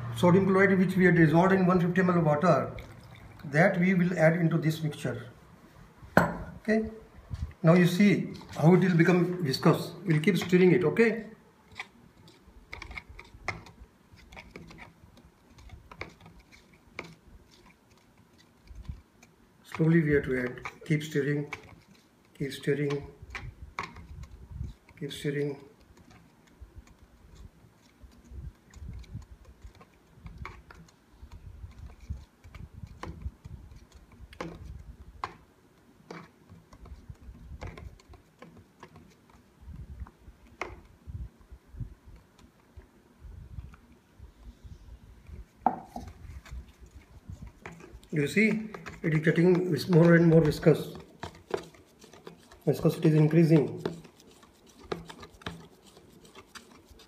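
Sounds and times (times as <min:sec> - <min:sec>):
metal spoon stirring liquid: 0:00.2 - 0:04.9, 0:07.8 - 0:41.0, 0:45.2 - 0:57.0.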